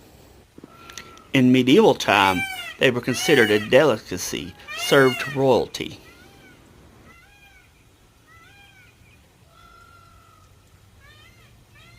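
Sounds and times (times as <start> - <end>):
faint peafowl calling: 0.6 - 11.9.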